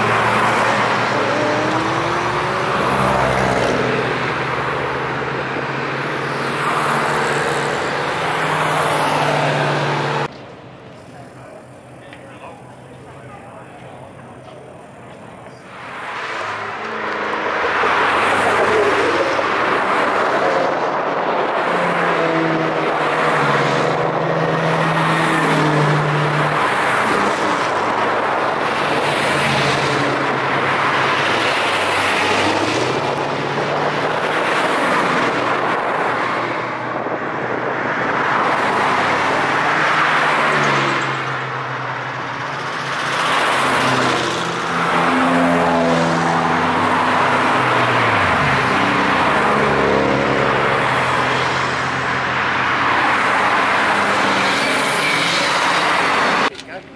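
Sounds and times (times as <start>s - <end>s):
cars driving past: 0.0s - 56.9s
tyre noise on road: 0.0s - 56.9s.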